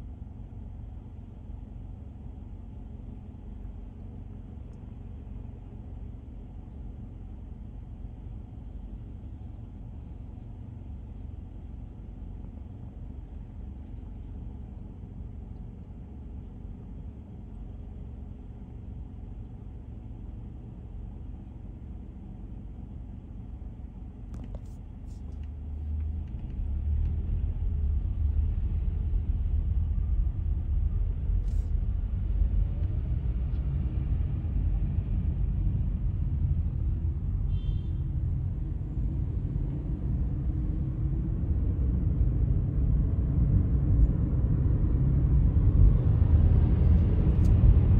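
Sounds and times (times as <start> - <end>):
car driving on road: 0.0 - 47.9.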